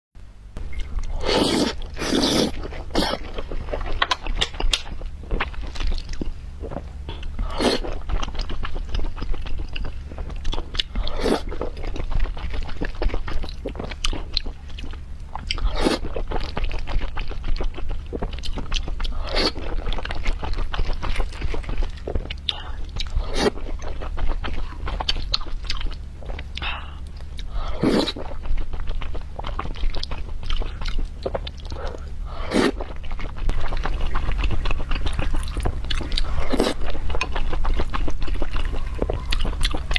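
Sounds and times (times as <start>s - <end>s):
low hum: 0.2s - 39.9s
chewing and biting: 0.6s - 39.9s.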